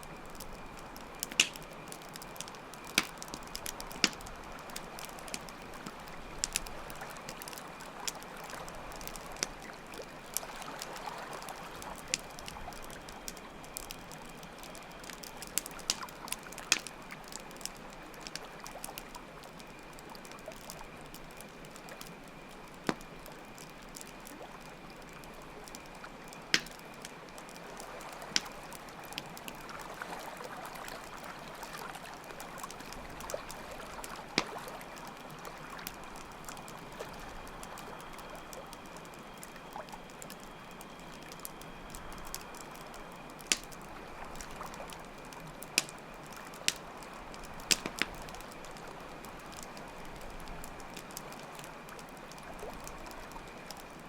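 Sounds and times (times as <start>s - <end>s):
campfire crackling and popping: 0.0s - 54.0s
crickets trilling: 0.0s - 54.0s
trickle of running water: 0.0s - 54.0s.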